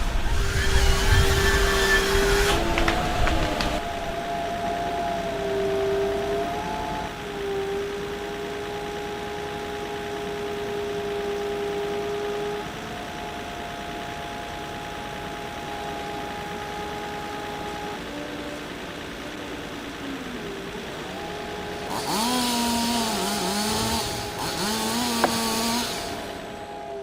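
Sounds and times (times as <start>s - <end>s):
heavy machine engine running: 0.0s - 26.9s
steady whine shifting pitch: 0.0s - 27.0s.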